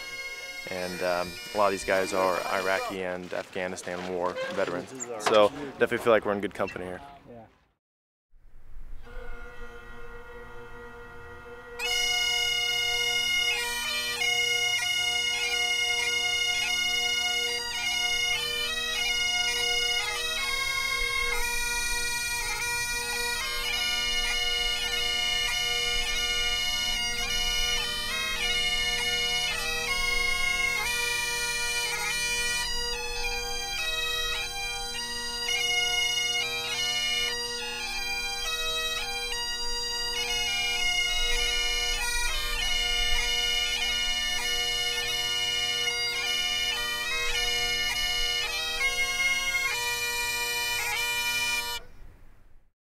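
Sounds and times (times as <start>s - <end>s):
bagpipes playing: 0.0s - 5.5s, 8.9s - 51.9s.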